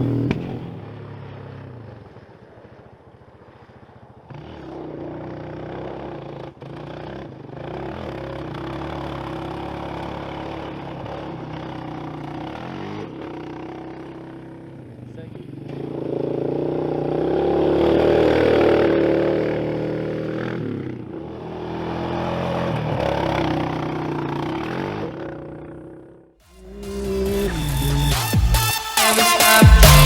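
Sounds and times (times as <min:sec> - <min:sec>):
off-road vehicle engines running: 0:00.0 - 0:28.5.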